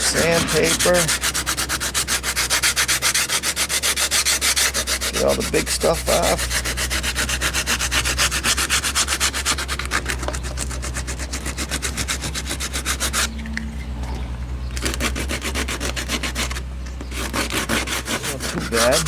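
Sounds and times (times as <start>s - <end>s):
sandpaper rubbing on body filler: 0.0s - 13.3s, 14.8s - 19.0s.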